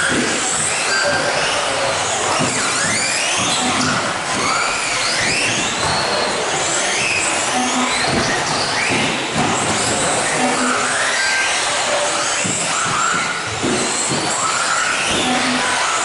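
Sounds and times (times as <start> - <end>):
rc car motors whining: 0.0 - 16.0
steady rush of noise: 0.0 - 16.0.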